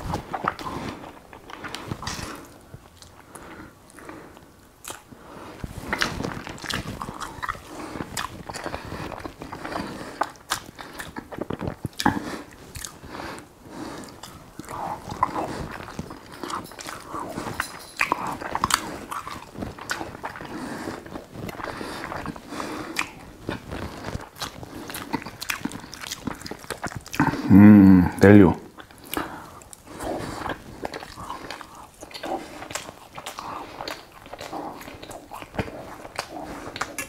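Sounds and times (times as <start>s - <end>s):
person chewing food: 0.0s - 27.6s, 28.7s - 37.0s.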